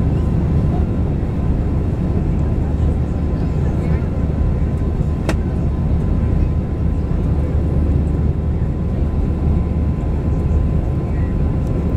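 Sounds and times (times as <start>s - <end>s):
jet engines and rushing air rumble: 0.0s - 11.9s.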